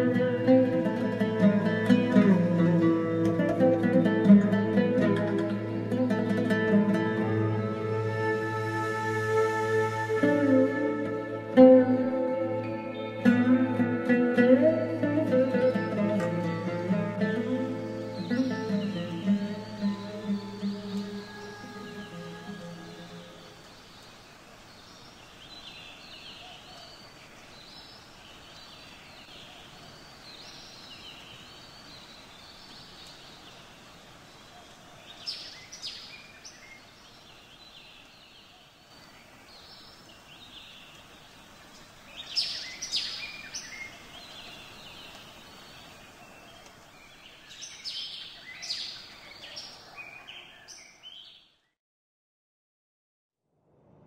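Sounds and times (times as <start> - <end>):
faint outdoor hiss: 0.0 - 51.7.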